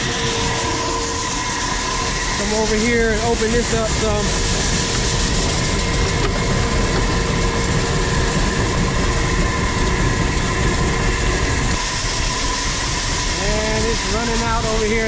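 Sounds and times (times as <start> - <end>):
machinery rumble with whine: 0.0 - 15.0.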